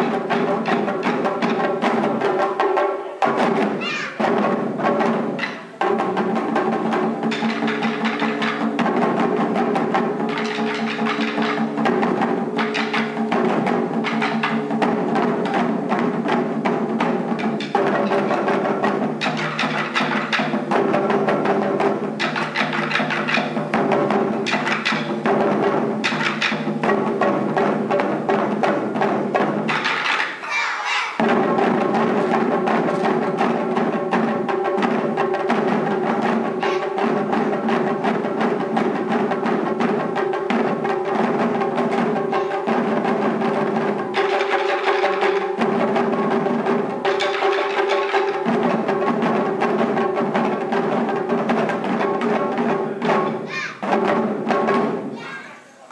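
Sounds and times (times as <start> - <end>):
taiko drums struck in rhythm: 0.0 - 55.4.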